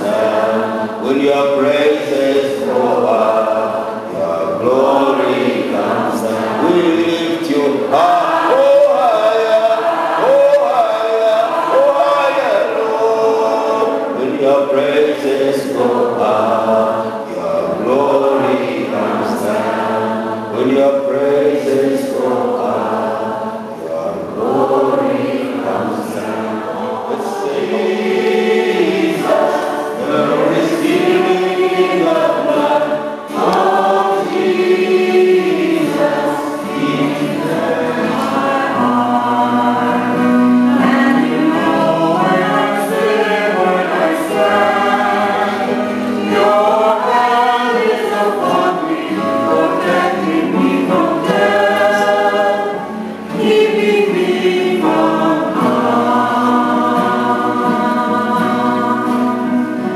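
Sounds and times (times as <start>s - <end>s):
congregation singing: 0.0s - 59.9s.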